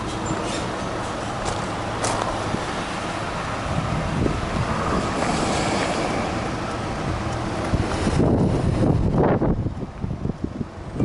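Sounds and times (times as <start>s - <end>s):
wind buffeting microphone: 0.9s - 5.8s, 6.4s - 11.0s.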